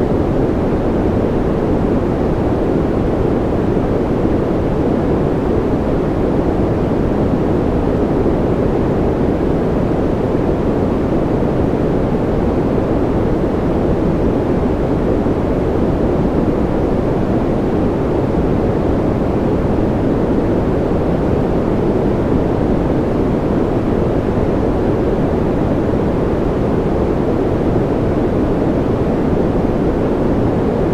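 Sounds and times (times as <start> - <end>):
deep white noise: 0.0 - 30.9.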